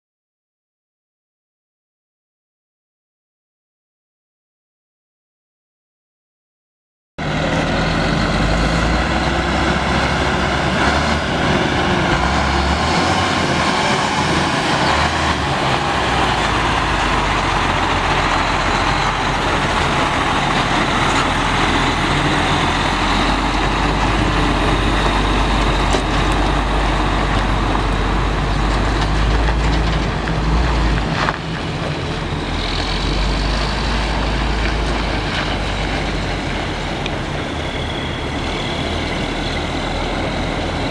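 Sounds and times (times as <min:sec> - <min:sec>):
diesel truck engine rumbling: 0:07.2 - 0:40.9.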